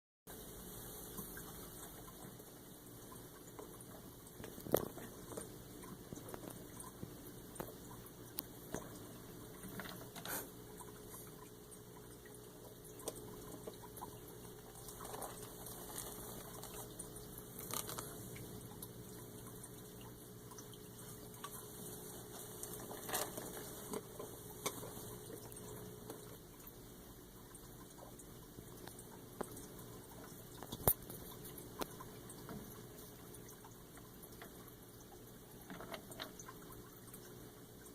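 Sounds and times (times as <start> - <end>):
water trickling and lapping: 0.4 - 37.9.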